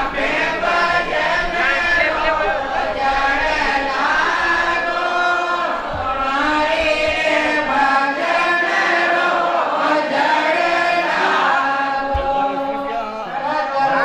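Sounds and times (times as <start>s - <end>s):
many voices chanting: 0.0s - 14.0s.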